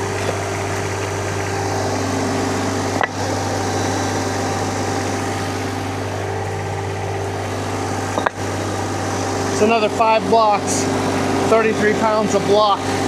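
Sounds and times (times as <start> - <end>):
skid steer engine idling: 0.0 - 13.0.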